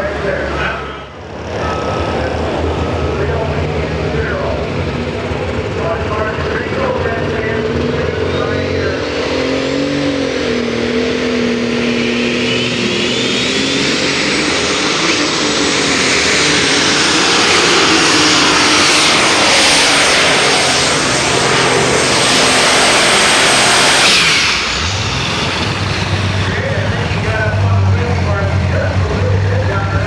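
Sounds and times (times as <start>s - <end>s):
high whine: 0.0s - 30.0s
tractor engine at full throttle: 0.0s - 30.0s.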